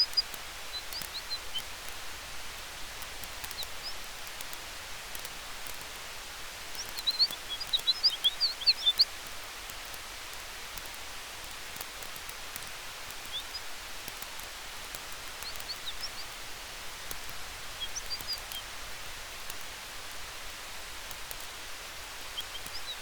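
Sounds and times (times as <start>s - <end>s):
faint fire crackles: 0.0s - 23.0s
steady hiss: 0.0s - 23.0s.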